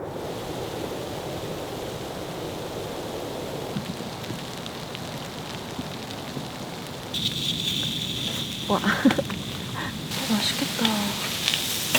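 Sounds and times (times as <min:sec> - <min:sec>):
wind and falling snow: 0:00.0 - 0:11.9.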